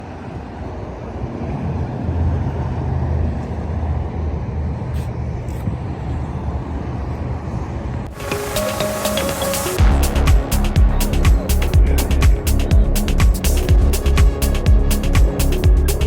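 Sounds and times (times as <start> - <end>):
car engine rumbling: 1.2 - 16.0.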